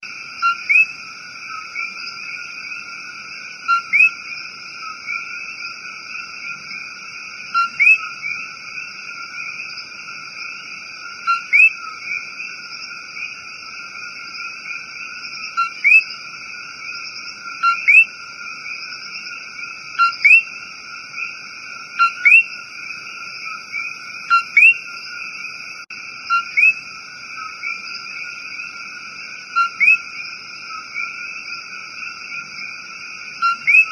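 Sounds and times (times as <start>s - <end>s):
frog chorus: 0.0s - 33.9s.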